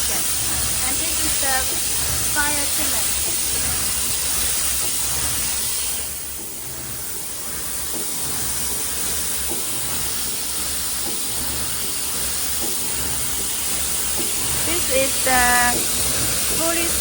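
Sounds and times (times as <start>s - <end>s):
low mechanical hum: 0.0s - 17.0s
printing machine hissing: 0.0s - 17.0s.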